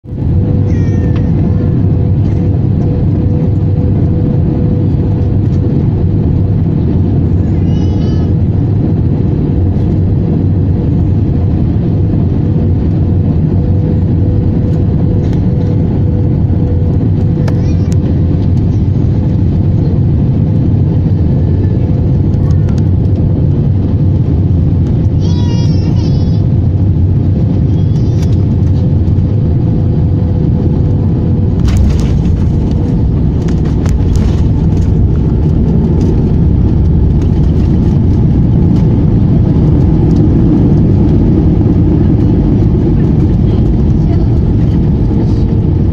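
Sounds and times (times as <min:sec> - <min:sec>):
airliner rumble: 0:00.0 - 0:45.9.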